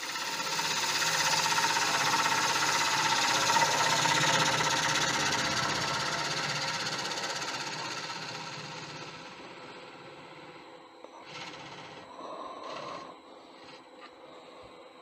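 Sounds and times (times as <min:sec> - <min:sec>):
lathe tool cutting wood: 0:00.0 - 0:12.1.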